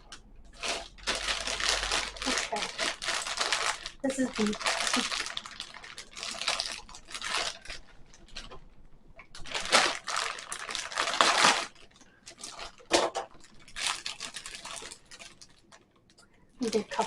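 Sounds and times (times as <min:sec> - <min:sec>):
plastic bag crinkling: 0:00.1 - 0:17.0.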